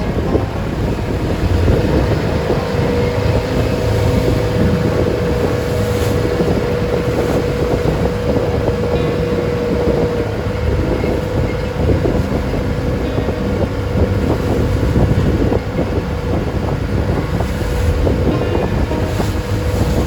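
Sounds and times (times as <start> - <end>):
boat engine running: 0.0 - 20.0
steady drone: 0.0 - 20.0
wind buffeting microphone: 0.0 - 20.0.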